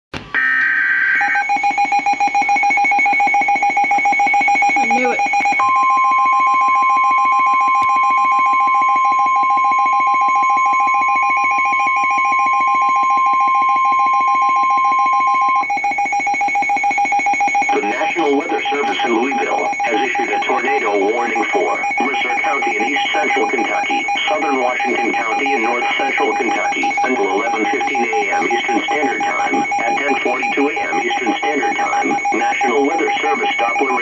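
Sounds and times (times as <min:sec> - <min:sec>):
alarm beeping rapidly: 0:00.4 - 0:34.0
steady warning tone: 0:00.4 - 0:34.0.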